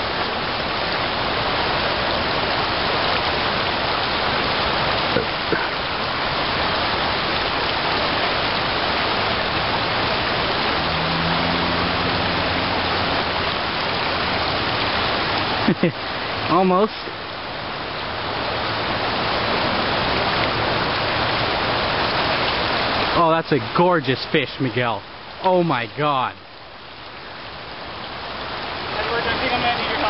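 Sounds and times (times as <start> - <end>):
river water rushing over shallows: 0.0 - 30.0.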